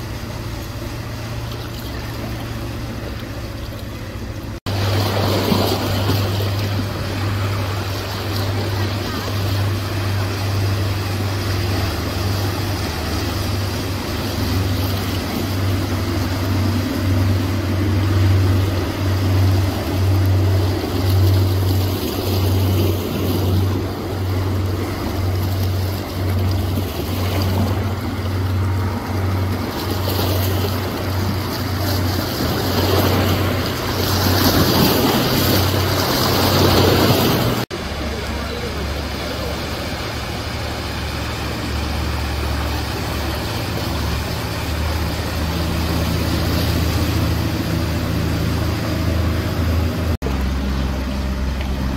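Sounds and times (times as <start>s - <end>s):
outboard motor boats passing: 0.0s - 51.9s
rush of spray and surf: 0.0s - 51.9s
steady low rumble: 0.0s - 51.9s.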